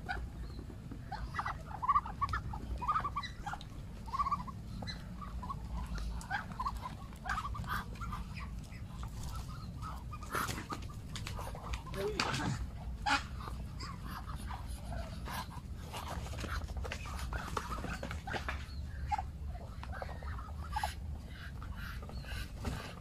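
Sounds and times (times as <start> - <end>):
ducks calling softly: 0.0 - 23.0
low background rumble: 0.0 - 23.0.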